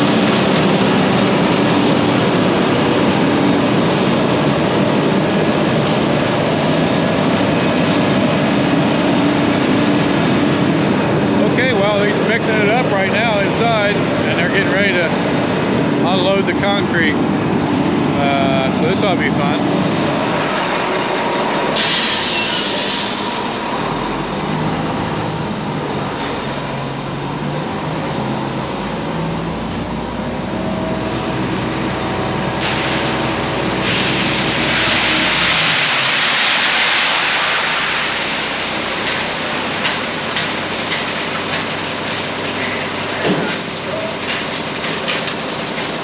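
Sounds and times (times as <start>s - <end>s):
rushing noise: 0.0s - 41.6s
concrete mixer truck rumbling: 0.0s - 46.0s.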